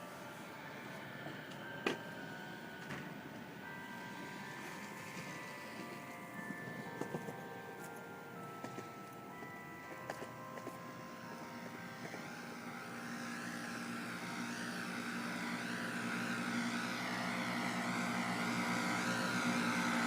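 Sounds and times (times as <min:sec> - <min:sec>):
chapel bells ringing: 0:00.0 - 0:20.0
maintenance machine engine running: 0:00.0 - 0:20.0
wavering whine: 0:00.0 - 0:20.0.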